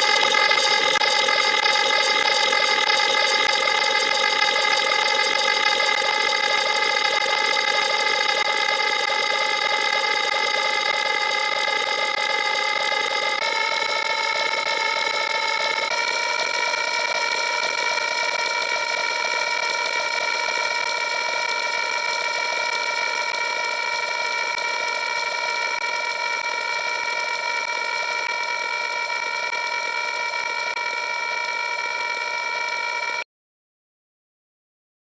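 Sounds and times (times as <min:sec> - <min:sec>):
machine-like whirring drone: 0:00.0 - 0:33.2.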